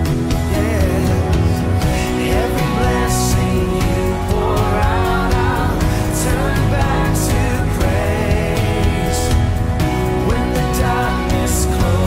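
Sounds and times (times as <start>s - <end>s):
worship song with band and singing: 0.0s - 12.0s.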